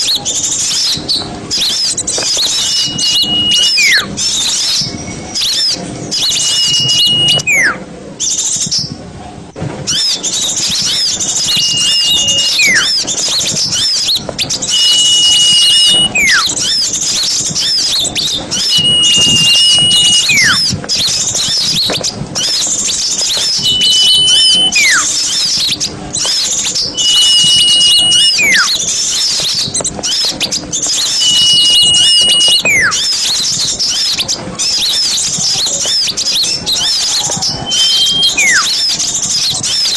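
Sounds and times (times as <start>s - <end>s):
songbirds chattering: 0.0s - 8.9s, 9.9s - 39.9s
held and falling whistle: 1.6s - 7.8s, 9.9s - 39.9s.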